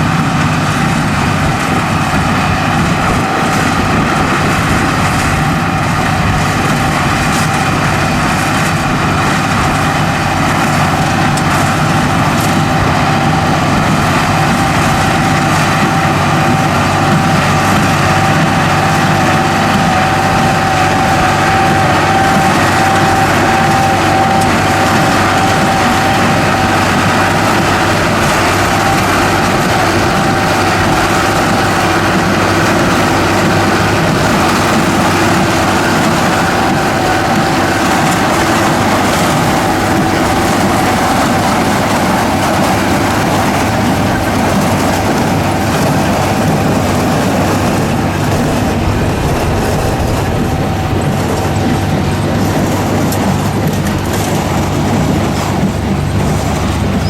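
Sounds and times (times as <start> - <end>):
diesel engine running: 0.0 - 57.0
thin steady whine: 0.0 - 57.0.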